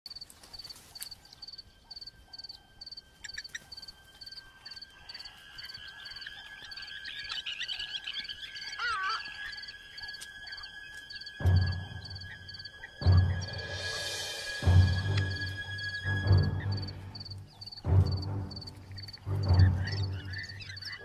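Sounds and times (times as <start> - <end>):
bird calls: 0.1 - 21.0
high insect drone: 0.1 - 21.0
warbling bird call: 1.9 - 17.9, 18.5 - 21.0.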